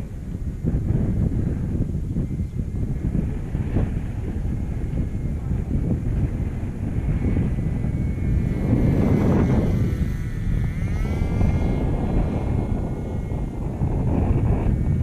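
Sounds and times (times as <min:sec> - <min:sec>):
model aeroplane engine buzzing: 0:00.0 - 0:15.0
wind on microphone: 0:00.0 - 0:15.0.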